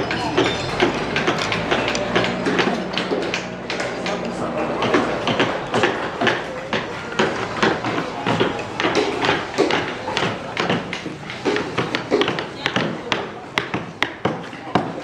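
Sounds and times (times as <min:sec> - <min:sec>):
mallets striking chisels into wood: 0:00.0 - 0:15.0.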